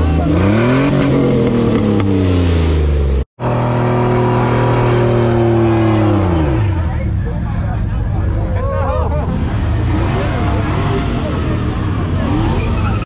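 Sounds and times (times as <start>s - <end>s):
truck engine revving high: 0.0s - 7.5s, 9.0s - 13.0s.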